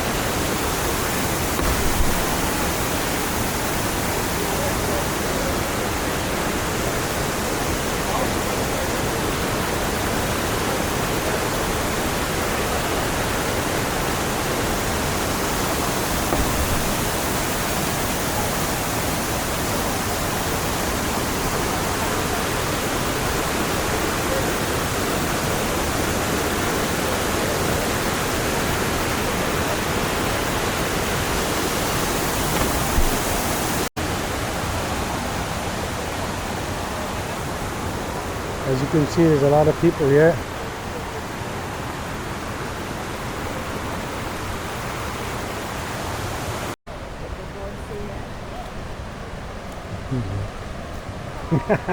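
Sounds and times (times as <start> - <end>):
waterfall rushing: 0.0 - 46.8.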